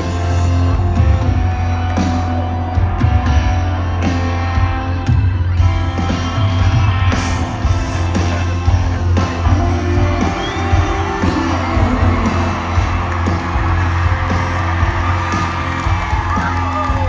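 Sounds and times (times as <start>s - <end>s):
crowd cheering: 0.0s - 17.0s
live band playing: 0.0s - 17.0s.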